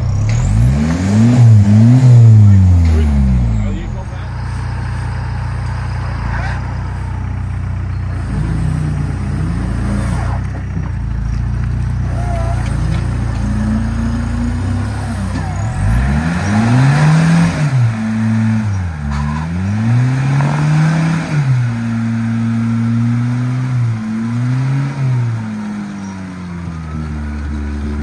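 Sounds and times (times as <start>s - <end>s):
buggy engine revving: 0.0s - 28.0s.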